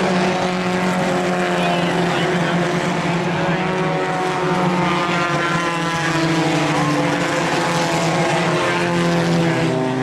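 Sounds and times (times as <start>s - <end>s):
race car engines: 0.0s - 10.0s.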